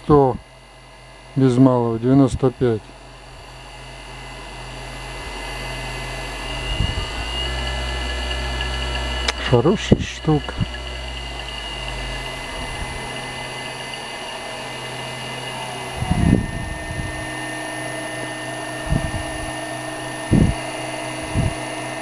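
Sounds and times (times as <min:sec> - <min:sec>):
electric motor hum and whine: 0:00.0 - 0:22.0
high thin electronic tone: 0:03.6 - 0:22.0.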